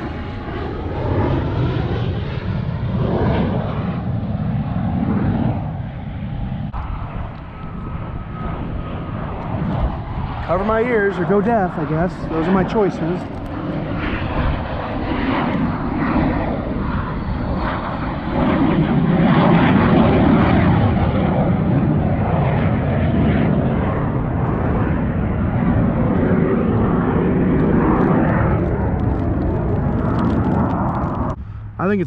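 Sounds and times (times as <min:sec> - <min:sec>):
fighter jet flying overhead: 0:00.0 - 0:32.0.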